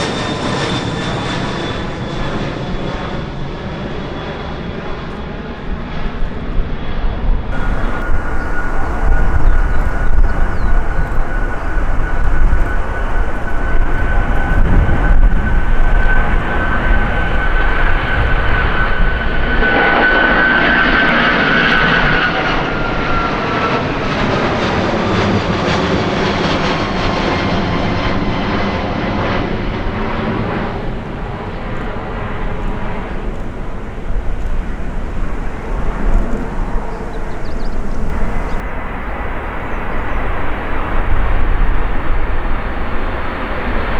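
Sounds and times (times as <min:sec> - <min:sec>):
jet aircraft flying past: 0:00.0 - 0:43.9.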